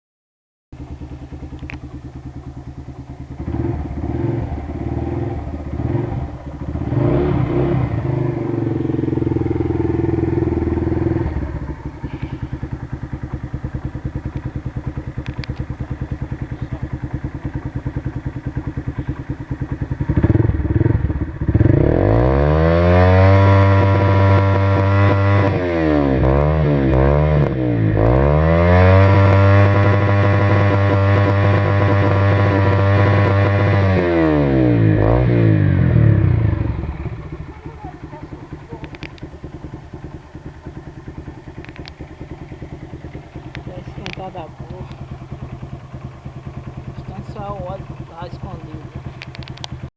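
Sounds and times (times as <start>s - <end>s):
motorcycle engine idling and revving: 0.7s - 49.9s.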